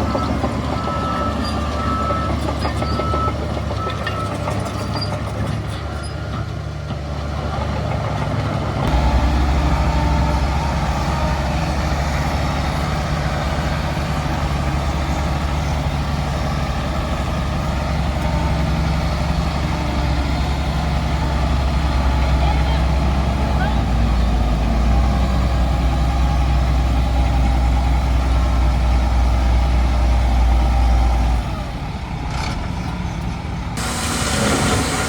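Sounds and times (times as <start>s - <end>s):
heavy diesel engine running: 0.0s - 4.8s, 5.6s - 35.0s.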